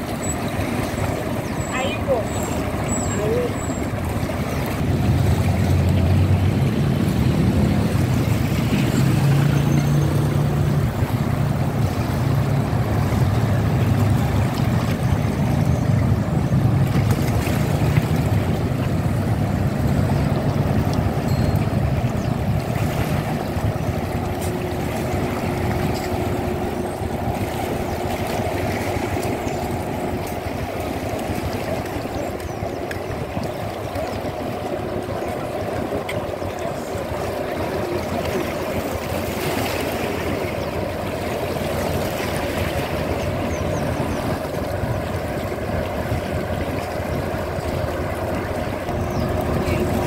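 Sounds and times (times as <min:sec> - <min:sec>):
water lapping along shore: 0:00.0 - 0:50.0.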